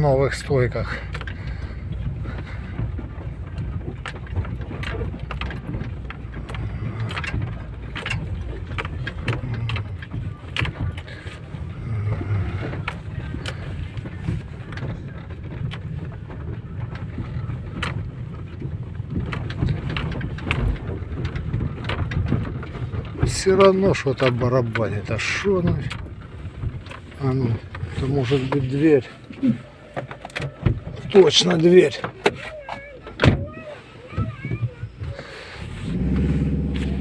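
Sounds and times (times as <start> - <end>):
knocks and rattles: 0.0 - 37.0
tyre and engine rumble in car: 0.0 - 37.0.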